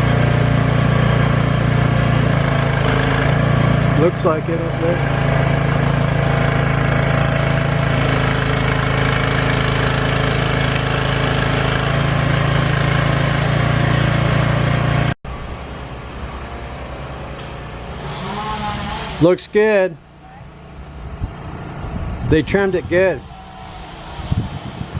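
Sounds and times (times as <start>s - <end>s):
large engine humming: 0.0s - 24.9s.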